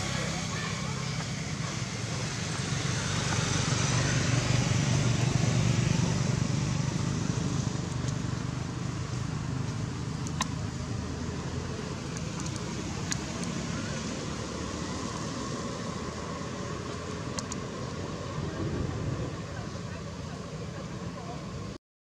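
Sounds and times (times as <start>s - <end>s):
vehicle engine passing: 0.0s - 21.8s.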